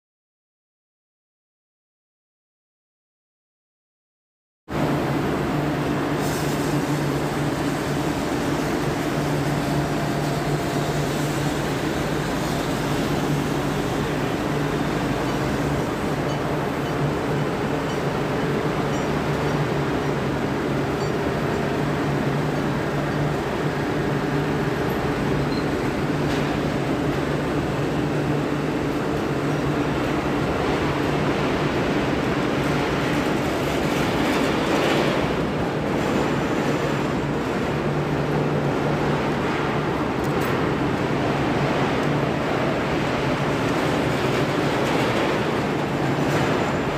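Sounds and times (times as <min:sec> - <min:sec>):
industrial machinery hum: 0:04.7 - 0:46.9.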